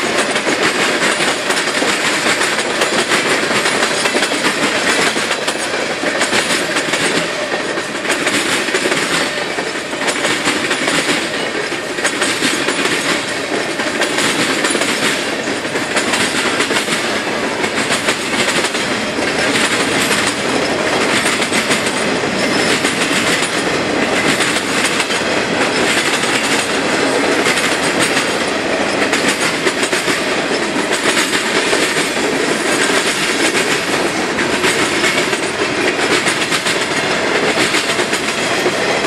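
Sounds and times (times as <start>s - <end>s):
freight train rumbling past: 0.0s - 39.0s
steel wheels clattering over joints: 0.0s - 39.0s.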